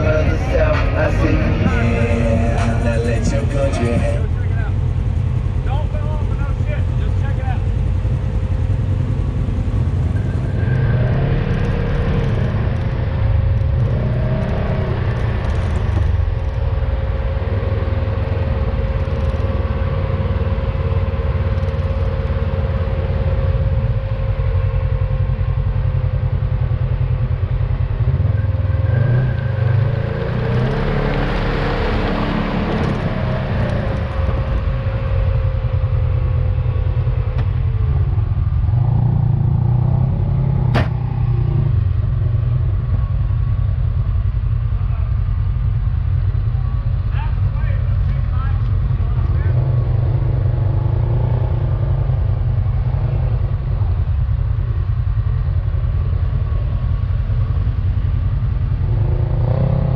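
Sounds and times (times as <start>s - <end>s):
engine low rumble with whine: 0.0s - 59.9s.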